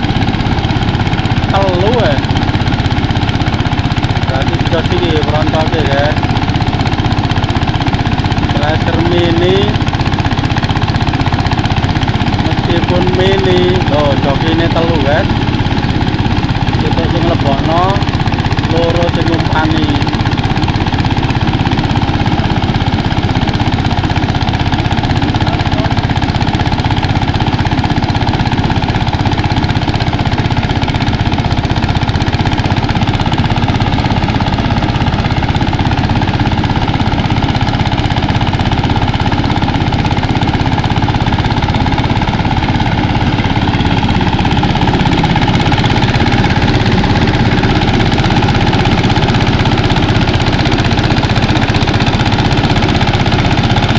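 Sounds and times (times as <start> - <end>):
rice thresher running: 0.0 - 53.9.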